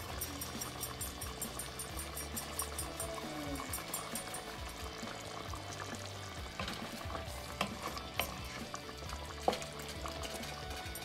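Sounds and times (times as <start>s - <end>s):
curry bubbling hiss: 0.0s - 11.0s
wooden spoon stirring in pot: 0.0s - 11.0s.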